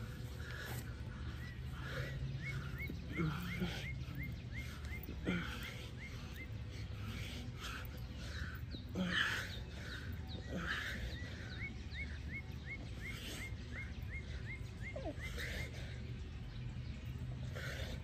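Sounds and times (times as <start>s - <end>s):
bird chirping: 0.0s - 18.0s
steady low rumble: 0.0s - 18.0s.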